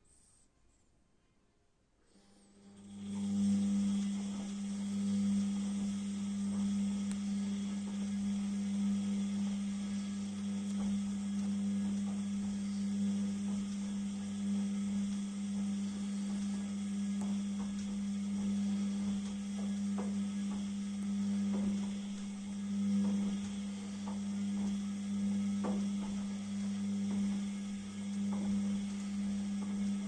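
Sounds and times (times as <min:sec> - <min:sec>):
washing machine humming: 0:02.4 - 0:30.0
faint ticks: 0:05.6 - 0:30.0.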